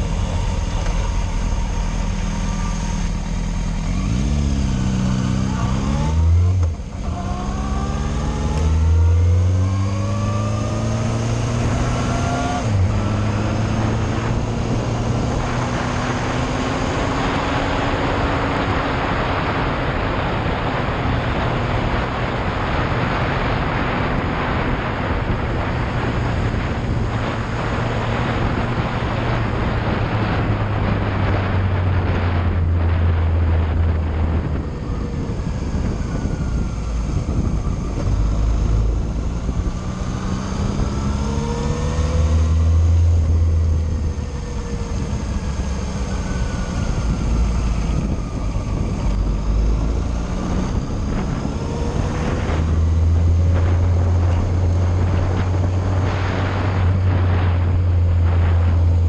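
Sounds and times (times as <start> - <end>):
motorcycle engine accelerating: 0.0 - 59.0
road noise on wet road: 0.0 - 59.0
wind rush: 0.0 - 59.0.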